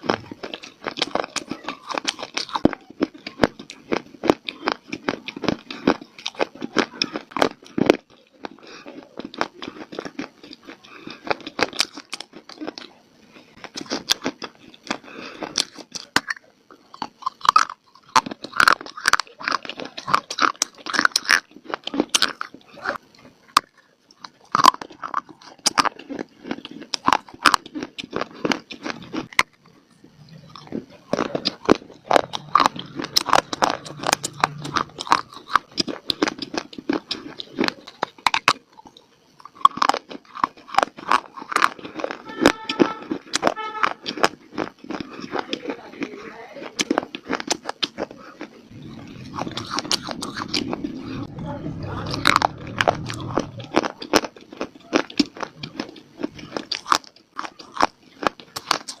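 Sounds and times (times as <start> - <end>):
person chewing crunchy clay: 0.0 - 59.0.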